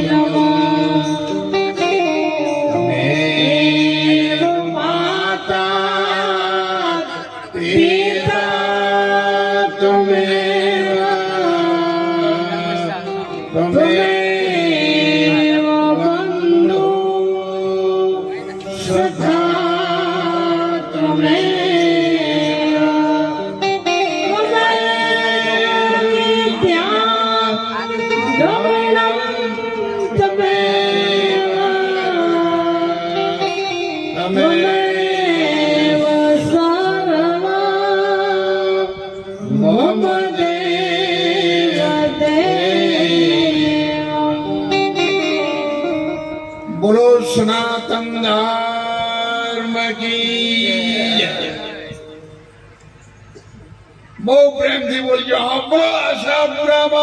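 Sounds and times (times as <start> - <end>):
person singing long notes: 0.0 - 53.0
instrumental drone: 0.0 - 57.0.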